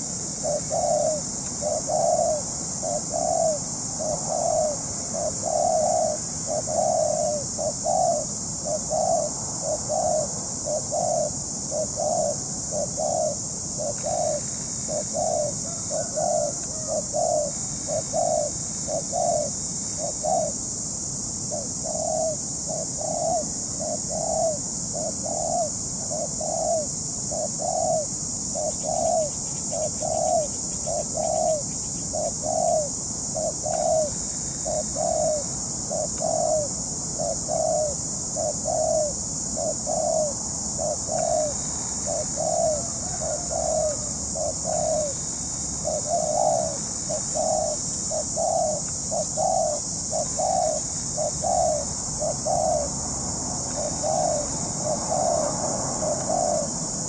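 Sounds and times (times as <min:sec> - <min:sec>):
dove cooing: 0:00.0 - 0:20.8, 0:21.5 - 0:53.0, 0:53.6 - 0:57.0
steady high hiss: 0:00.0 - 0:57.0.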